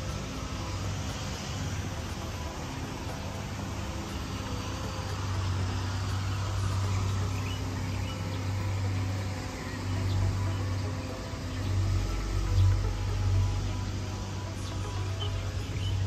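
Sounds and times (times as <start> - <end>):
faint chirps: 0.0 - 16.0
road and wind noise: 0.0 - 16.0
vehicle engine hum: 0.0 - 16.0.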